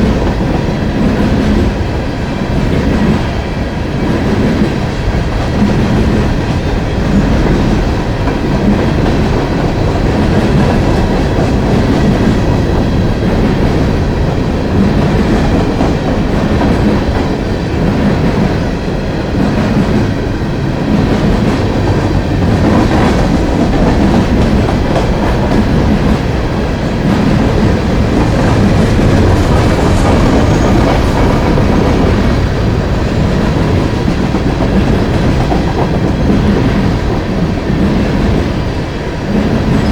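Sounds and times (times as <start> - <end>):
railroad cars rolling on rails: 0.0 - 39.9.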